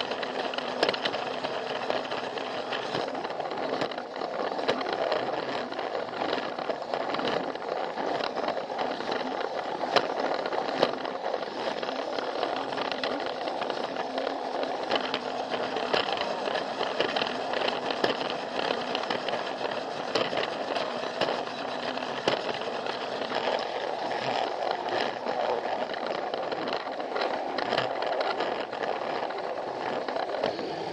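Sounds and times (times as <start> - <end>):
toy train motor whir: 0.0 - 30.9
wheels clicking on track joints: 0.0 - 30.9.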